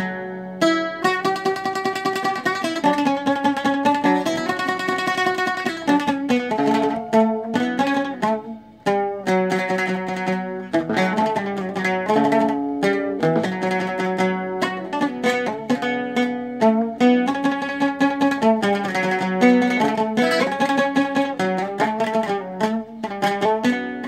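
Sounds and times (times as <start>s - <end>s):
oud melody: 0.0s - 24.0s.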